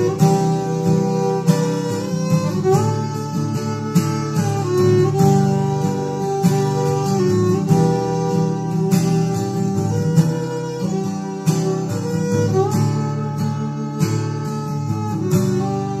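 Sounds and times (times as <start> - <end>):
held chords: 0.0 - 16.0
plucked guitar-like notes: 0.0 - 16.0.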